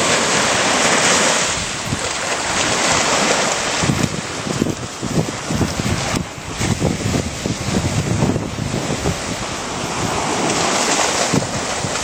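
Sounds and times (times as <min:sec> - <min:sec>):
ocean surf washing on shore: 0:00.0 - 0:12.0
wind buffeting microphone: 0:00.0 - 0:12.0.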